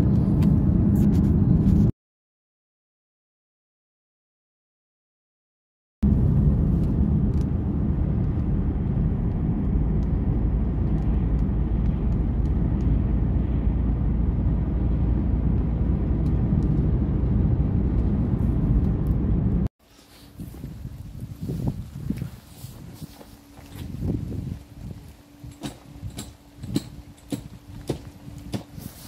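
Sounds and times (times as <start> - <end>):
car cabin road rumble: 0.0 - 1.9, 6.0 - 29.0.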